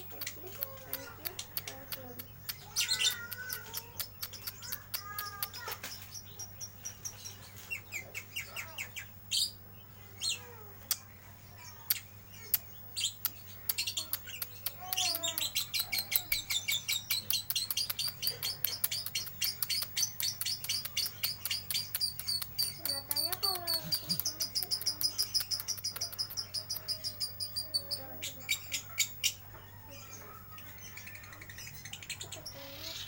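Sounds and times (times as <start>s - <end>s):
lovebird chattering: 0.0s - 7.3s, 11.8s - 29.4s, 30.8s - 33.0s.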